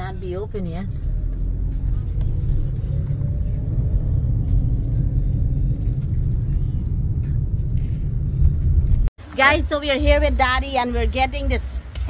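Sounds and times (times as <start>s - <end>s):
car engine rumble: 0.0s - 10.6s
tyres on road: 0.0s - 12.0s.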